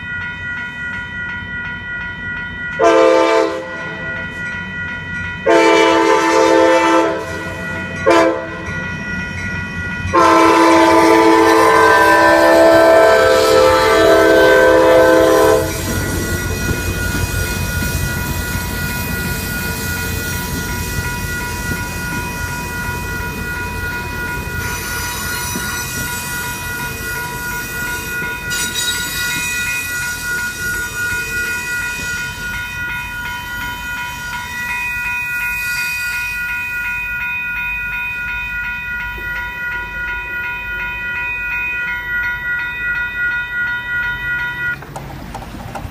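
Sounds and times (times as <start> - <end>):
crossing bell ringing: 0.0 - 45.3
train wheels rumbling on rails: 0.0 - 45.9.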